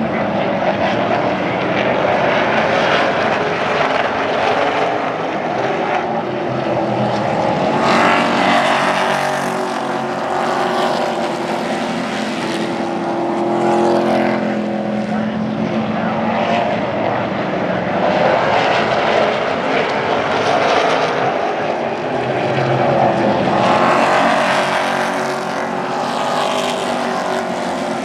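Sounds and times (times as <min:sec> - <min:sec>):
racing truck engines: 0:00.0 - 0:28.0.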